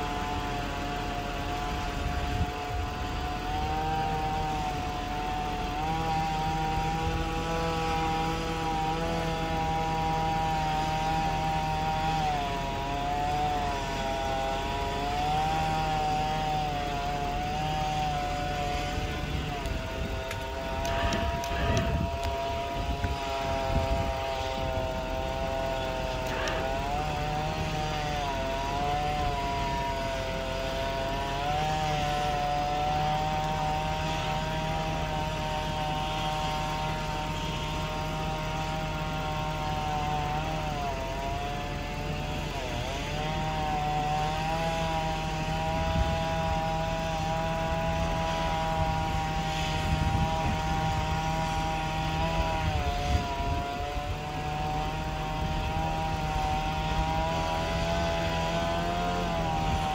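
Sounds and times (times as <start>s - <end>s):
chainsaw cutting at high revs: 0.0s - 59.9s.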